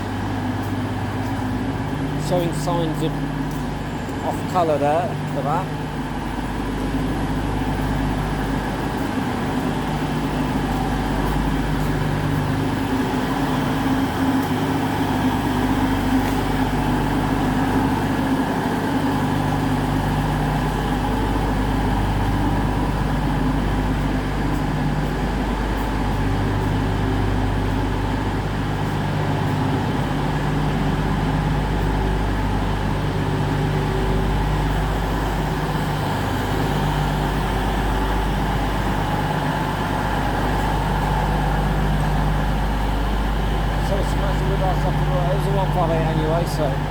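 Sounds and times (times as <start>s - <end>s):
diesel engines idling: 0.0s - 46.9s.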